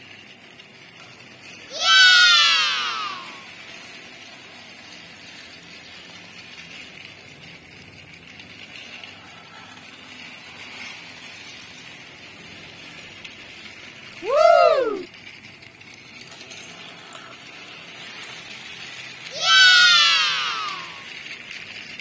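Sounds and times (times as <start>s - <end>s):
toy train motor whirring: 0.0s - 22.0s.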